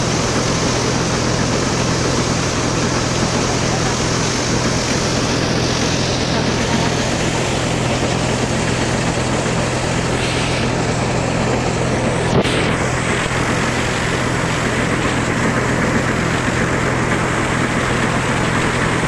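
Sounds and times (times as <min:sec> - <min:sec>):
steady low hum: 0:00.0 - 0:19.0
thresher running: 0:00.0 - 0:19.0.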